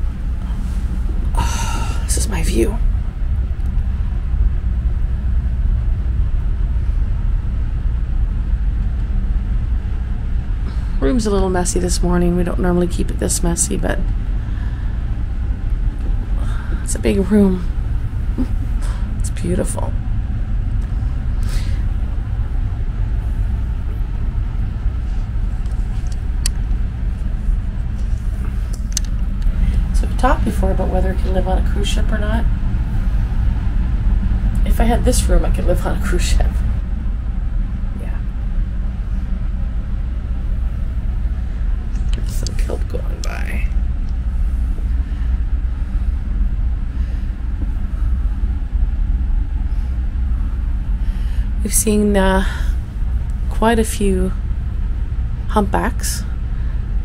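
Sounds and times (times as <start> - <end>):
ship engine low rumble: 0.0 - 57.0.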